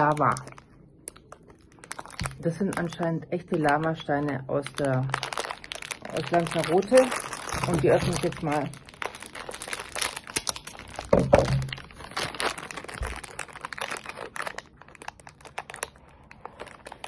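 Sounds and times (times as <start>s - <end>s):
cellophane crinkling: 0.0s - 17.0s.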